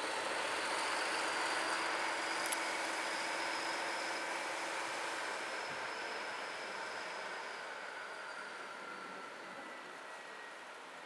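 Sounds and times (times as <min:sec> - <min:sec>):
diesel locomotive engine: 0:00.0 - 0:11.0.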